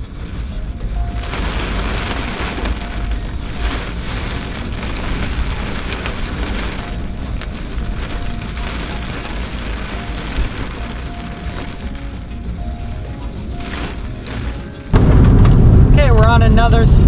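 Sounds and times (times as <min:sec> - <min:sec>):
heavy rain hitting a vehicle: 0:00.0 - 0:17.0
low road and engine rumble: 0:00.0 - 0:17.0.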